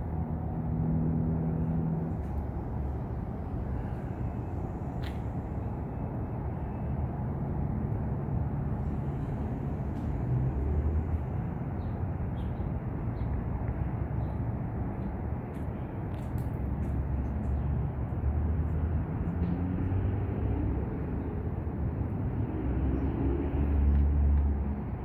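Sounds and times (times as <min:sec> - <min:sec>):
distant city traffic rumble: 0:00.0 - 0:25.0.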